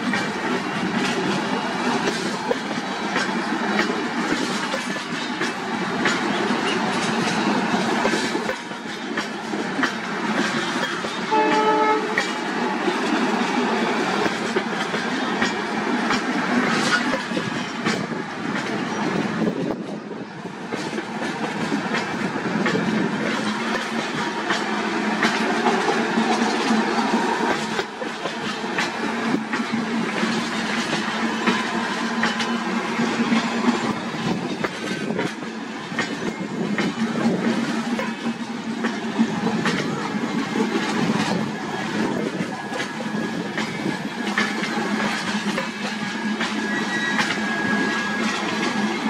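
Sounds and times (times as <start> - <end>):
train coaches rumbling: 0.0 - 49.0
wheels clicking over rail joints: 0.0 - 49.0.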